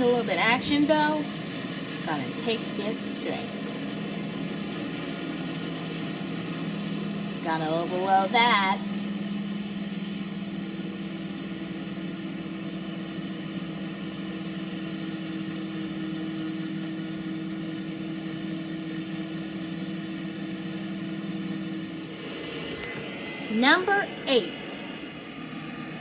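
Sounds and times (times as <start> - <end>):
heavy machinery engine drone: 0.0 - 26.0.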